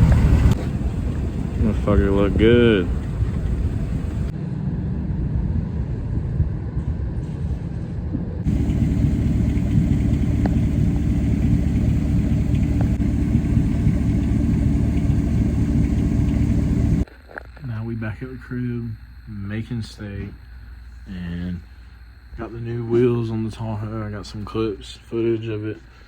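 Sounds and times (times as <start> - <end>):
vehicle engine rumbling: 0.0 - 4.3, 7.3 - 24.4.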